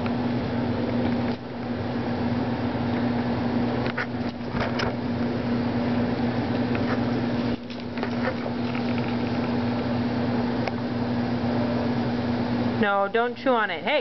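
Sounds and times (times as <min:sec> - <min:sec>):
electrical machine hum: 0:00.0 - 0:14.0.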